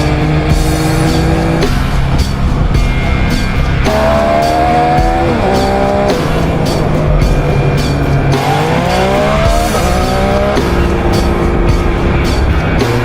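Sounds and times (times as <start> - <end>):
motorcycle engine pulling through gears: 0.0 - 13.0.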